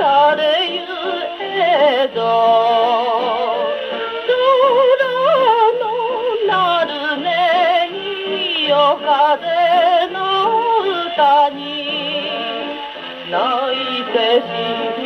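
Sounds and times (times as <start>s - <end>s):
old popular song on gramophone: 0.0s - 15.0s.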